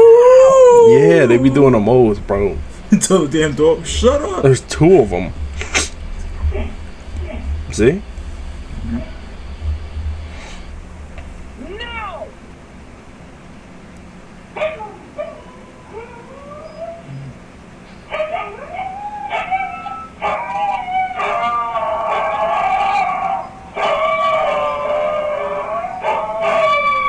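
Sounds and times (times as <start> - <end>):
huskies howling: 0.0 - 27.0.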